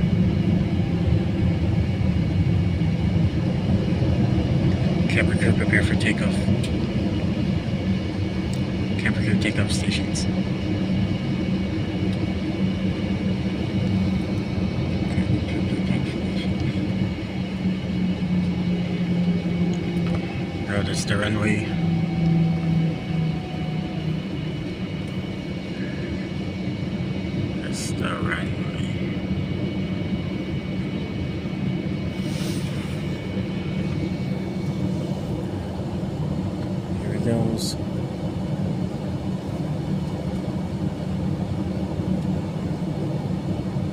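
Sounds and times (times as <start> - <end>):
aircraft cabin engine hum: 0.0 - 43.9.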